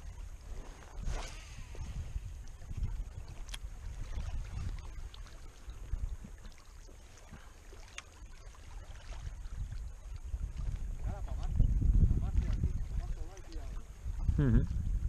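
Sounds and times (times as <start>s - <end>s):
wind buffeting microphone: 0.0s - 7.5s, 8.3s - 15.0s.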